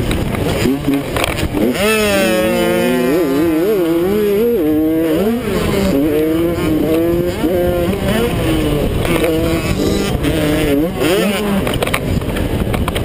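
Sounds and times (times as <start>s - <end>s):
motocross engine revving: 0.0s - 12.6s.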